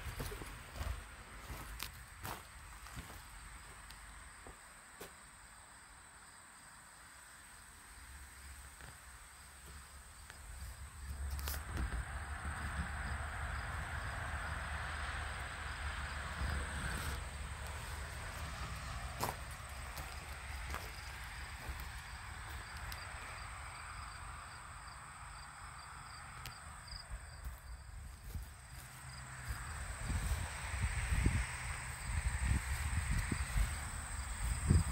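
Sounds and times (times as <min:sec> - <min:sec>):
crickets trilling: 0:00.0 - 0:34.9
insects chirping faintly: 0:00.0 - 0:34.9.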